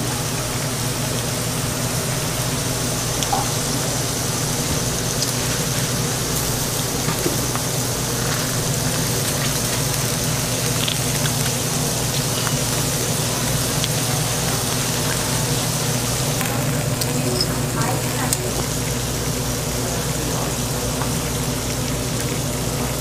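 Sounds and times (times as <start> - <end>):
constant low hum: 0.0 - 23.0
food sizzling on a griddle: 0.0 - 23.0.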